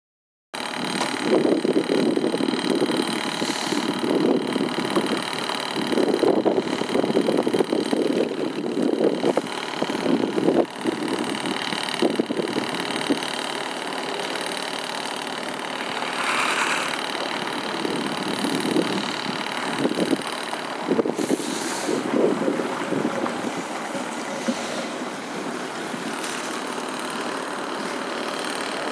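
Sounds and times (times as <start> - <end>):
tram wheels rumbling over rails: 0.6 - 28.9.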